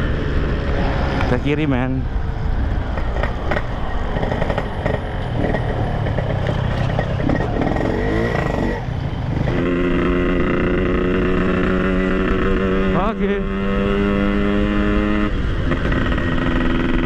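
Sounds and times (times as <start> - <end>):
motorcycle engine running: 2.6 - 17.0.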